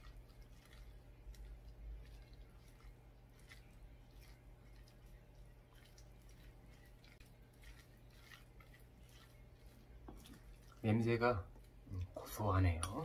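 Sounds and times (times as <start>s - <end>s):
low steady hum: 0.0s - 13.0s
wet squishing of mixing rice: 0.0s - 13.0s.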